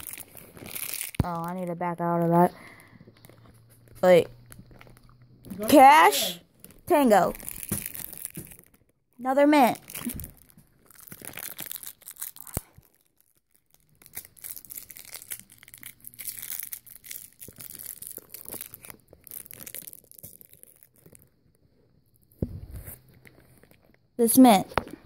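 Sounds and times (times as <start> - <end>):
rustling and crinkling: 0.0 - 5.8, 6.5 - 9.0, 9.6 - 25.0.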